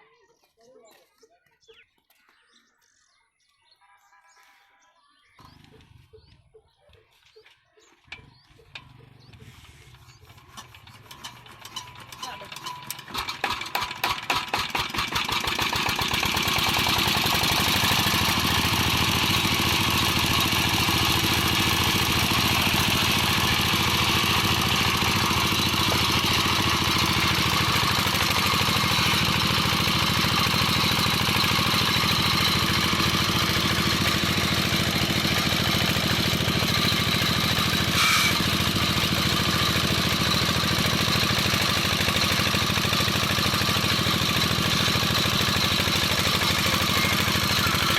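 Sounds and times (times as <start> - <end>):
diesel engine starting and running: 5.3 - 6.6, 7.8 - 47.9.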